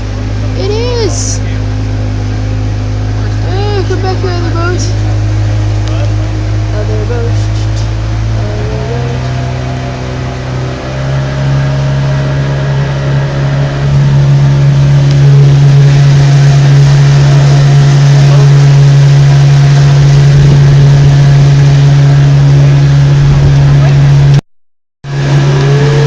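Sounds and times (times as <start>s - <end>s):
boat engine speeding up: 0.0s - 24.4s, 25.0s - 26.0s.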